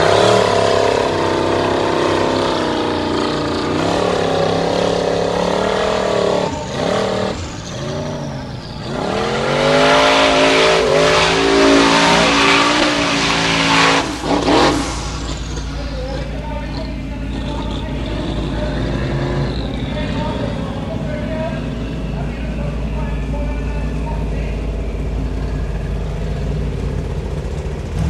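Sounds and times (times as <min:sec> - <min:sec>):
buggy engine revving hard: 0:00.0 - 0:28.0.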